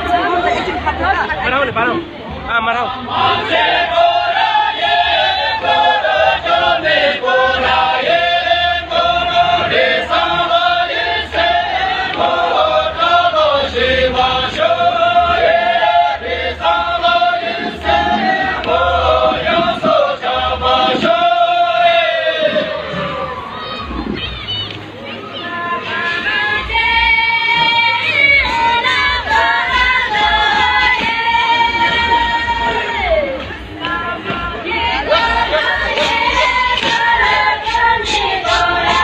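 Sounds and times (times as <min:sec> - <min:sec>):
group singing folk song: 0:02.7 - 0:23.4, 0:25.5 - 0:39.0.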